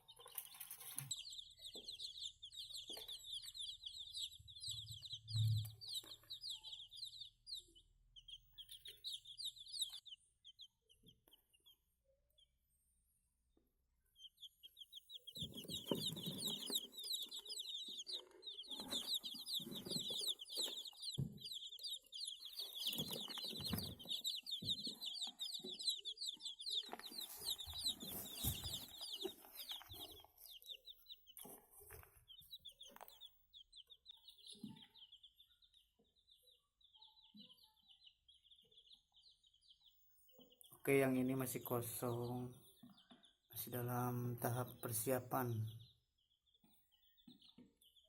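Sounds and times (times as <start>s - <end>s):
chicks peeping: 0.0s - 48.0s.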